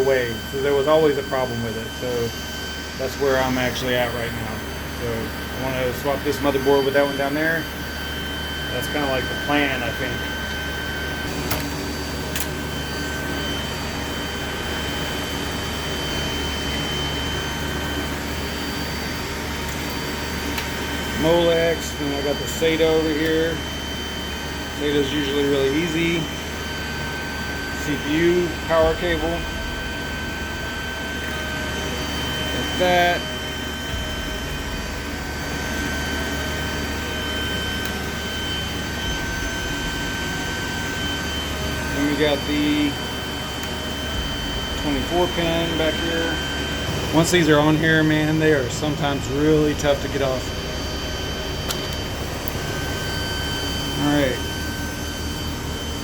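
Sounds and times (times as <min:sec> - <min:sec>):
cooling fans whirring: 0:00.0 - 0:56.0
thin steady whines: 0:00.0 - 0:56.0.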